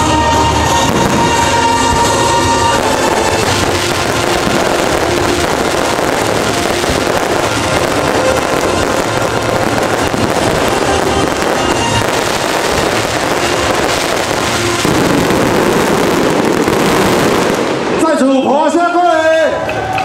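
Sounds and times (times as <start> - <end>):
fireworks bursting and crackling: 0.0 - 19.9
music playing: 0.0 - 20.0.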